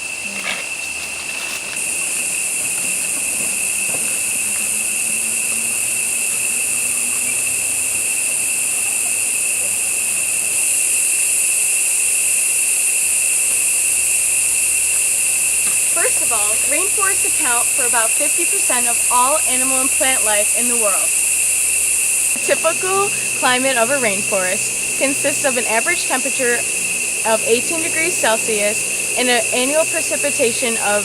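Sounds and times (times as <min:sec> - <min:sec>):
insect chorus buzzing: 0:00.0 - 0:31.0.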